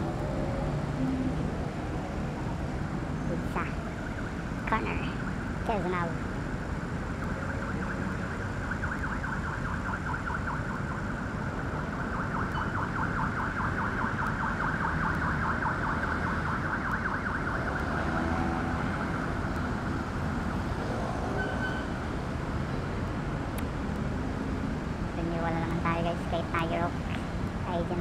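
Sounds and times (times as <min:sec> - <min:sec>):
low traffic rumble: 0:00.0 - 0:28.0.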